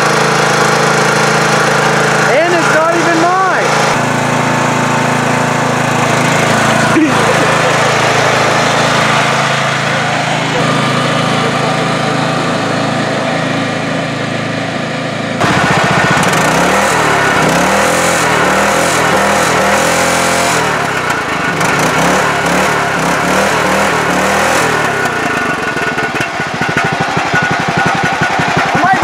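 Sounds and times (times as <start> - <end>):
small engine revving: 0.0 - 29.0.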